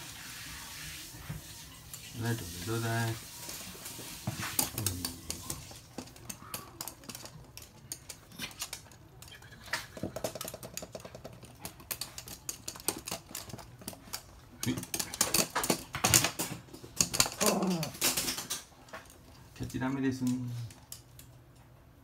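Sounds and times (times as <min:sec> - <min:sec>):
dog claws clicking on floor: 0:01.8 - 0:21.7.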